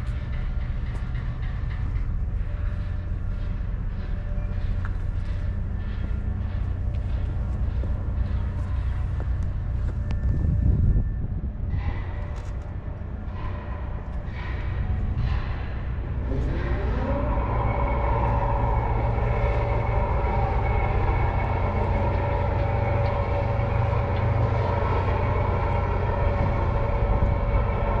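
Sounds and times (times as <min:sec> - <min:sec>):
engine running with low hum: 0:00.0 - 0:28.0.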